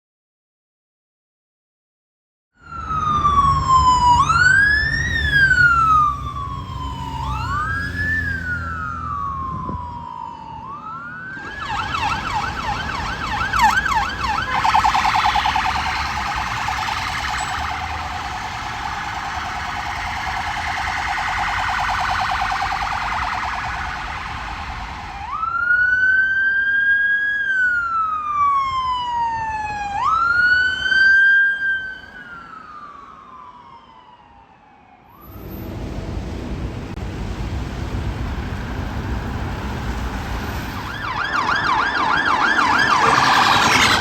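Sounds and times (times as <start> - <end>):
fast yelp siren: 2.6 - 35.4, 40.4 - 44.0
fast warbling siren: 2.6 - 35.6, 40.4 - 44.0
wailing siren: 2.6 - 36.2, 38.2 - 44.0
traffic noise: 2.6 - 44.0.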